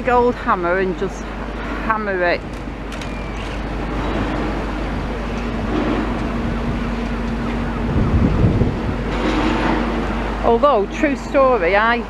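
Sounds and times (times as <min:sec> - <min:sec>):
low rumbling: 0:00.0 - 0:12.0
outdoor traffic: 0:00.0 - 0:12.0
steady engine hum: 0:00.0 - 0:12.0.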